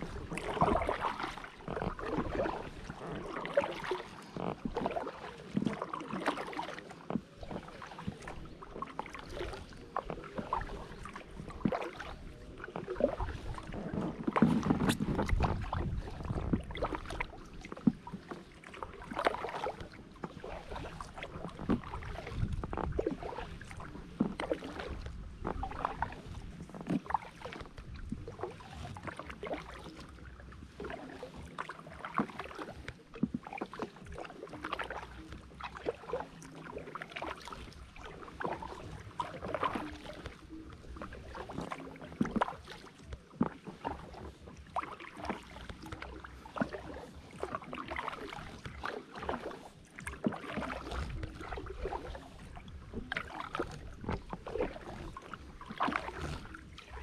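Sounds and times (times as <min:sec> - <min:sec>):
paddle pulling through water: 0:00.0 - 0:57.0
water dripping off paddle: 0:00.1 - 0:57.0.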